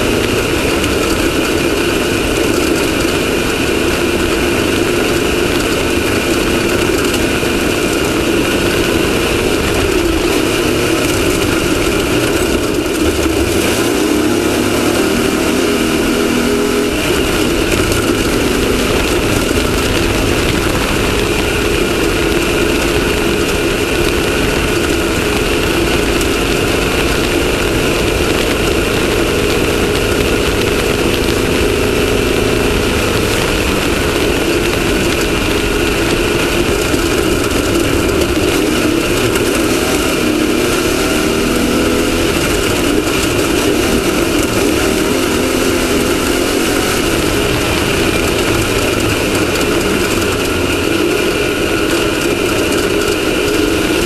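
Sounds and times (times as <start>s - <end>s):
race car engine running at speed: 0.0s - 54.0s
wind and road noise: 0.0s - 54.0s.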